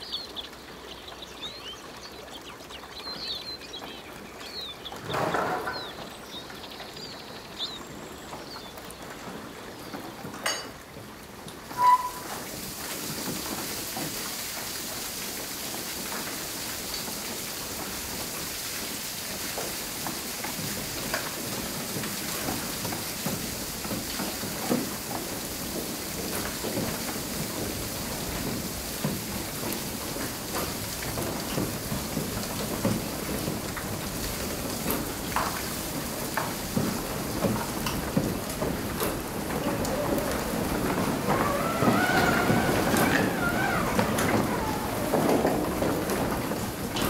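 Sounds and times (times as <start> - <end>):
water splashing and dripping: 0.0 - 47.0.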